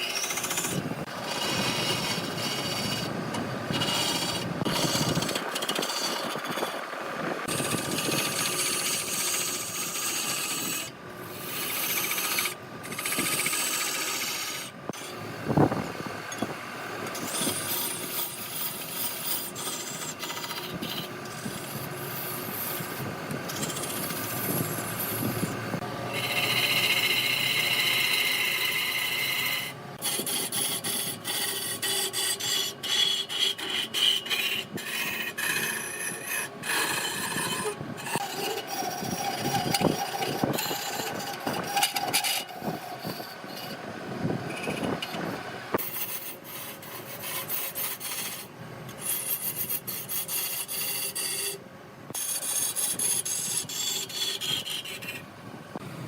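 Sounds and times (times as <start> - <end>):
lathe tool rasping on wood: 0.0 - 15.8, 16.4 - 43.9, 44.5 - 55.2.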